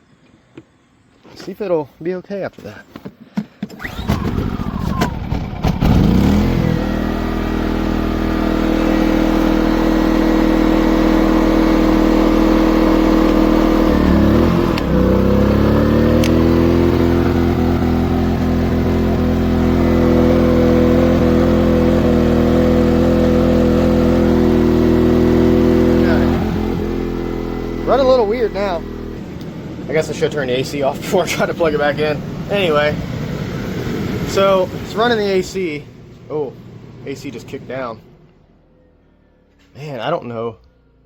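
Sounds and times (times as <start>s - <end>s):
generator engine running: 3.7s - 38.7s.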